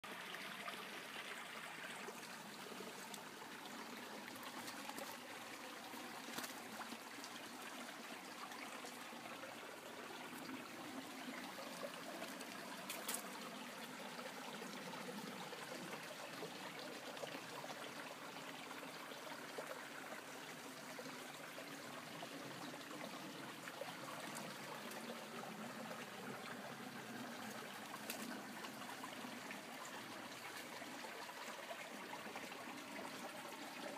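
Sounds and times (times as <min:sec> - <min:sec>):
stream trickling over rocks: 0:00.0 - 0:33.9.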